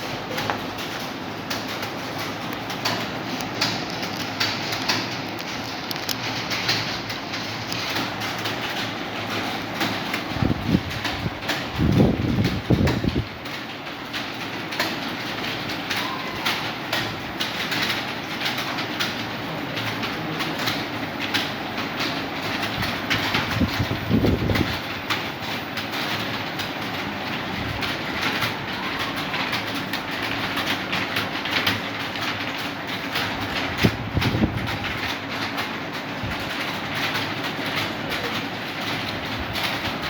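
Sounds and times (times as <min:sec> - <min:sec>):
keyboards clattering: 0:00.0 - 0:40.0.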